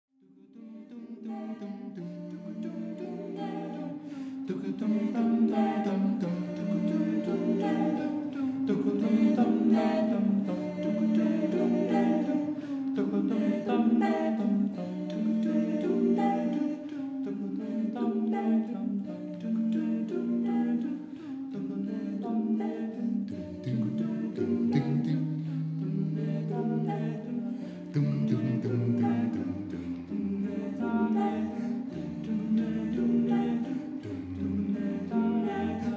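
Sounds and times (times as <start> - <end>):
a cappella group singing: 0.2 - 35.9.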